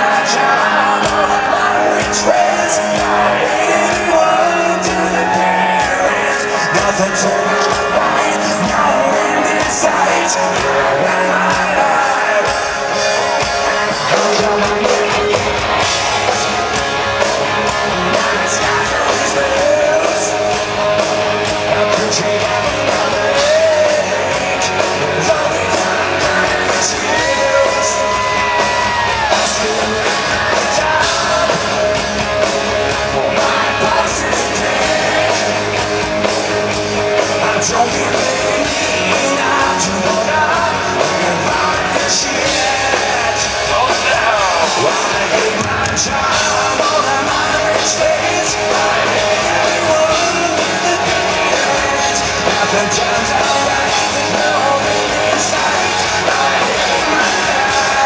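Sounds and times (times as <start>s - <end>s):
drums: 0.0s - 58.0s
electric guitars: 0.0s - 58.0s
lead singer's vocals: 0.0s - 58.0s
live rock band playing: 0.0s - 58.0s.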